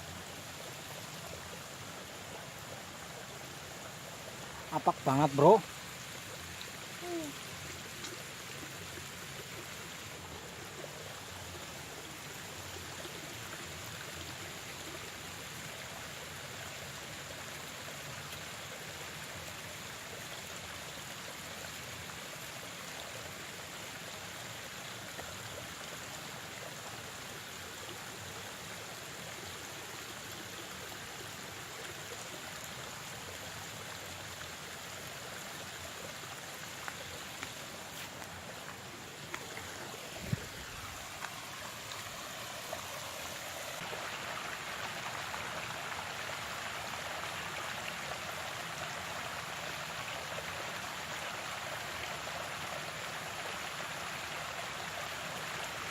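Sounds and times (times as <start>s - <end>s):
stream water flowing: 0.0s - 55.9s.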